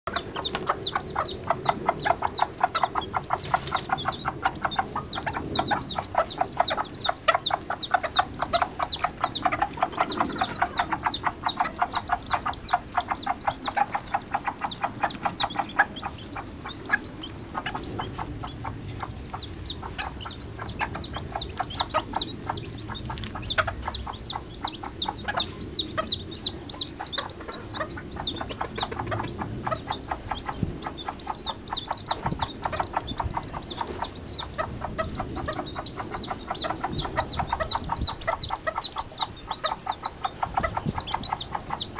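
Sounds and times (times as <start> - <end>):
chicks peeping: 0.1 - 41.9
hens clucking low: 0.1 - 41.9.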